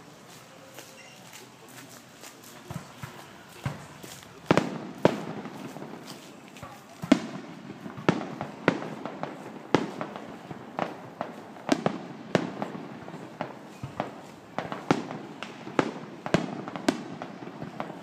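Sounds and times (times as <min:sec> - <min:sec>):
small firework pops and crackle: 0:00.4 - 0:18.0
firework bangs: 0:02.7 - 0:18.0.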